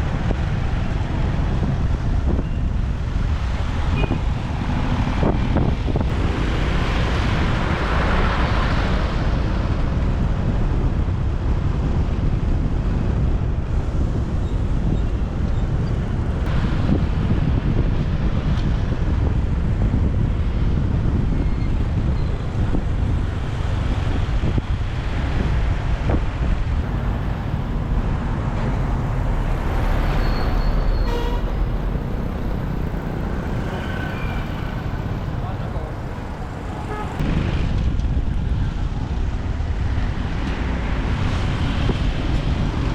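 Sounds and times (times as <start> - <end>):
road and traffic noise: 0.0 - 42.9
wind rumble on microphone: 0.0 - 42.9.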